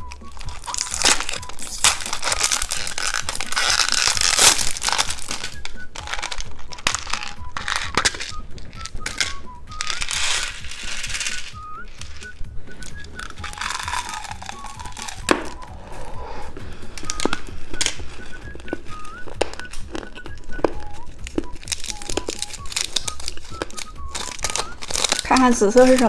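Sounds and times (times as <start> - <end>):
light background music: 0.0 - 26.0
plastic packaging crinkling: 0.0 - 26.0.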